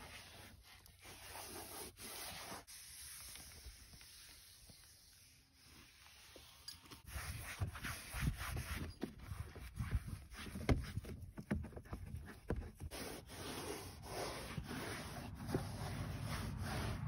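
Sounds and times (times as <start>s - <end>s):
wet wipe rubbing plastic: 0.0s - 6.4s, 7.1s - 17.0s.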